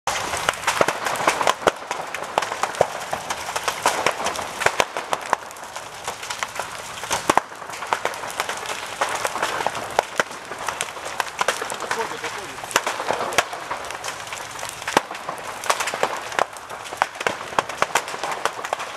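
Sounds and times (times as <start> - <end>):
fire crackling and popping: 0.1 - 18.9
steady fire hiss: 0.1 - 18.9.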